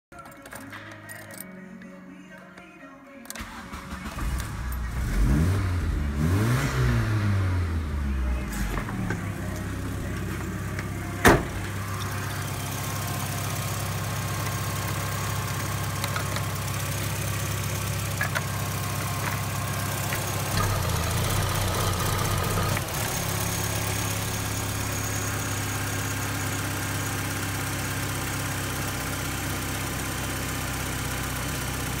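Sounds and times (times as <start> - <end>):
car engine revving and idling: 3.4 - 32.0.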